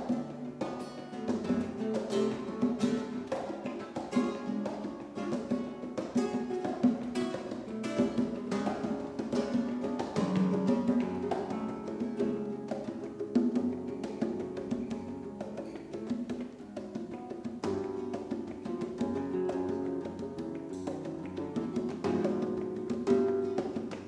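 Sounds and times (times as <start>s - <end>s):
congas: 0.0s - 24.0s
flamenco guitar playing: 0.0s - 24.0s.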